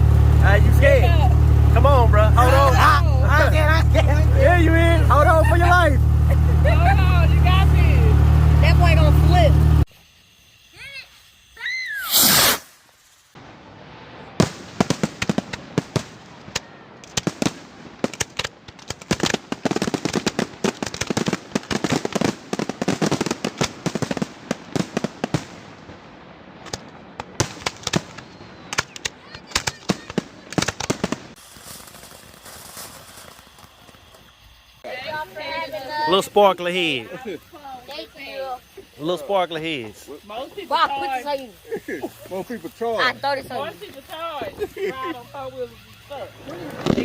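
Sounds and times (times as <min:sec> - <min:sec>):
firecrackers cracking: 0:00.0 - 0:47.0.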